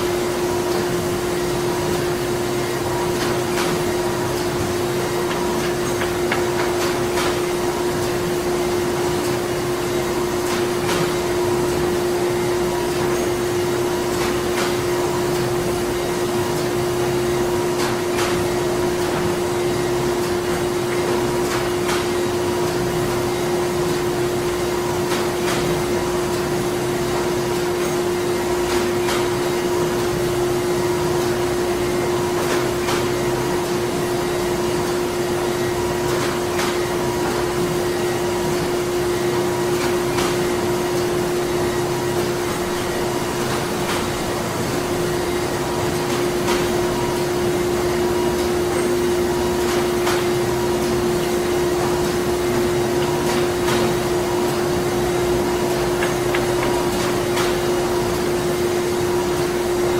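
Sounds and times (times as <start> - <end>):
printing machinery humming: 0.0 - 59.9.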